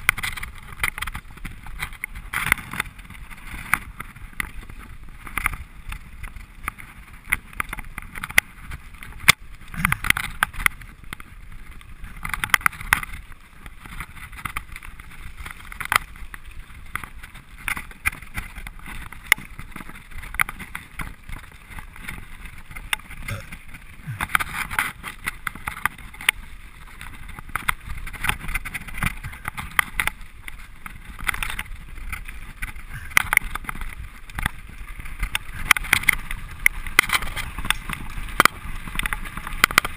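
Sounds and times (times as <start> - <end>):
bike knocking and rattling: 0.0 - 39.9
tyres on loose gravel: 0.0 - 39.9.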